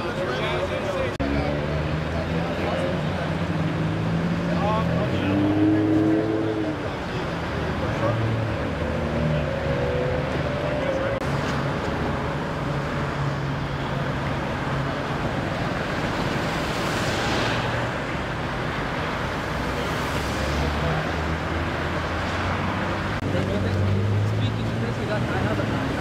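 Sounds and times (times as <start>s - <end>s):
freeway traffic engine rumble: 0.0s - 26.0s
vehicles passing close: 0.0s - 26.0s.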